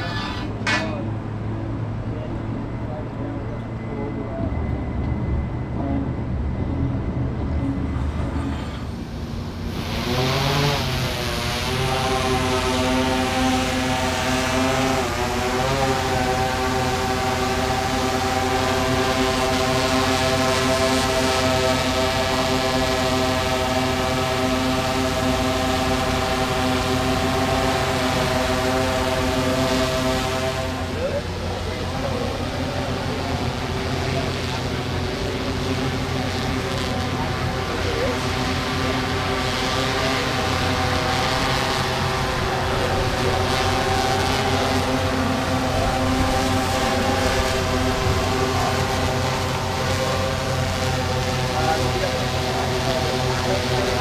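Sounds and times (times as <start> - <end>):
drone motors whining: 0.0 - 54.0
low steady rumble: 0.0 - 54.0.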